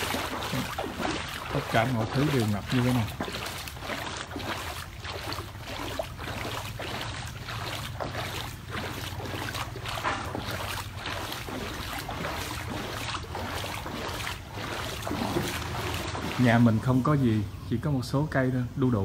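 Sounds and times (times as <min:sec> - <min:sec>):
footsteps splashing through water: 0:00.0 - 0:17.0.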